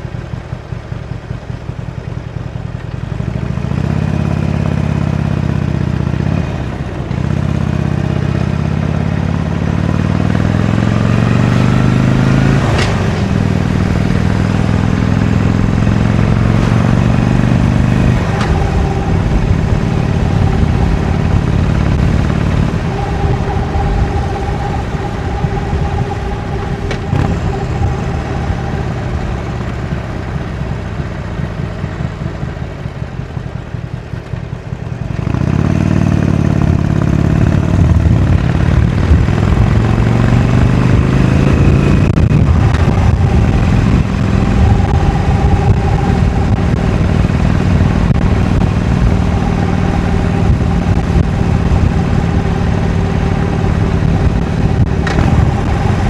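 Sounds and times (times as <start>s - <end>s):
motorcycle engine revving: 0.0s - 56.0s
motorcycle engine running: 0.0s - 56.0s.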